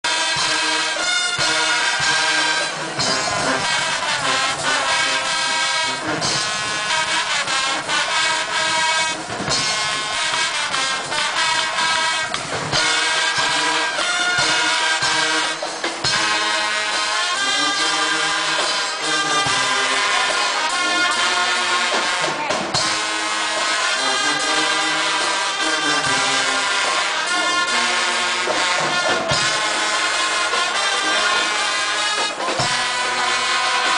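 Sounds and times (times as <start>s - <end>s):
brass band playing: 0.0s - 33.9s
steady drum beat: 0.1s - 33.9s.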